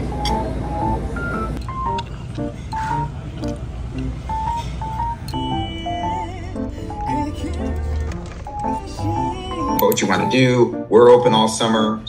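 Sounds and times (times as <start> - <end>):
melody of short pitched notes: 0.0 - 11.8.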